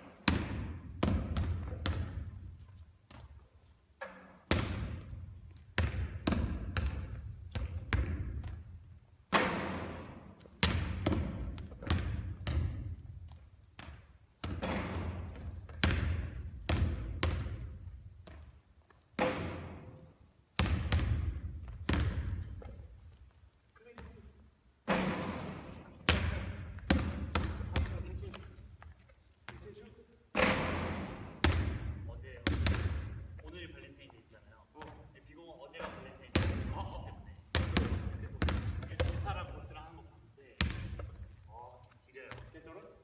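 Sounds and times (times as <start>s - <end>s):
basketball bouncing: 0.1s - 18.6s, 19.2s - 23.2s, 24.0s - 29.7s, 30.3s - 33.5s, 35.8s - 39.8s, 40.6s - 41.4s.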